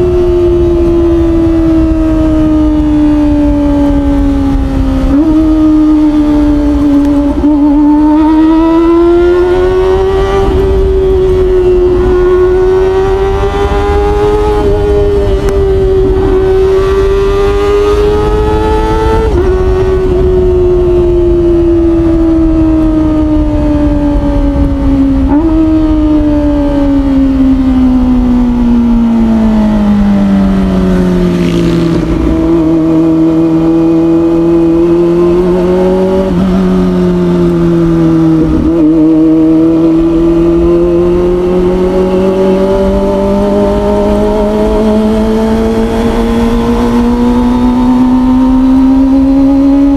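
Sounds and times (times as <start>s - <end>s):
motorcycle engine wailing at high revs: 0.0s - 49.9s
wind rush: 0.0s - 49.9s.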